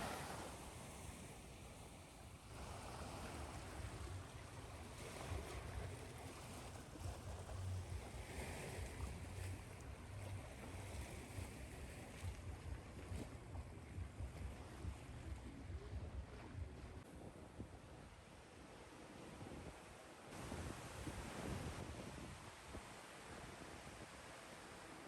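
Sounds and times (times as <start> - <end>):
waves breaking: 0.0 - 25.0.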